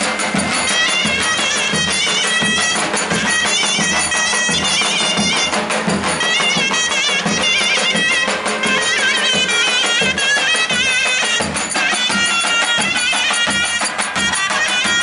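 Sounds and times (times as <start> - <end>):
drum beats: 0.0 - 15.0
shrill reed pipe melody: 0.0 - 15.0.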